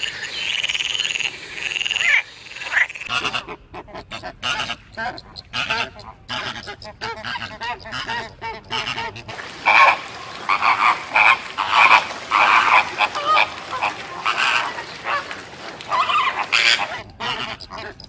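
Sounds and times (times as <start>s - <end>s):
flamingos calling: 0.0s - 18.0s.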